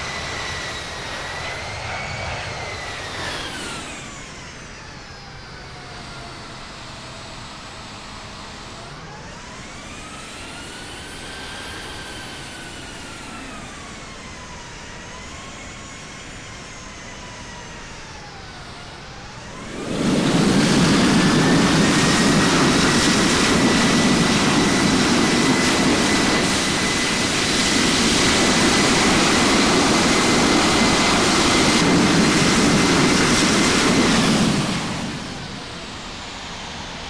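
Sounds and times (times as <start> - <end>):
jet engines whining: 0.0 - 5.8, 9.1 - 37.0.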